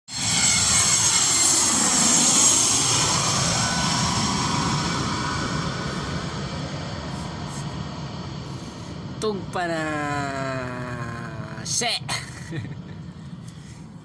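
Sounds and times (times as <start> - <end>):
airliner engines whining: 0.1 - 14.0.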